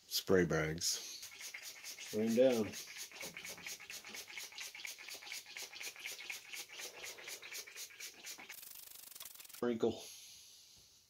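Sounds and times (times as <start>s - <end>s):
spray bottle spritzing: 1.0s - 10.2s.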